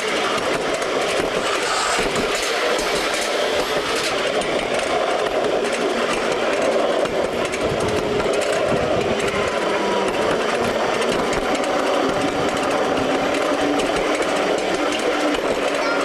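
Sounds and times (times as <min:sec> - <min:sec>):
miniature train clattering on track: 0:00.0 - 0:16.0.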